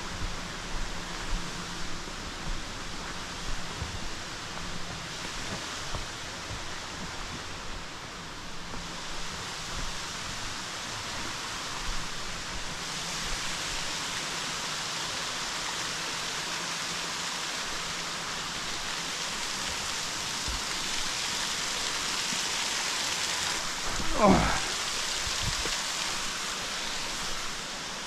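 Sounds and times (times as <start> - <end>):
creek tumbling over waterfalls: 0.0 - 28.0.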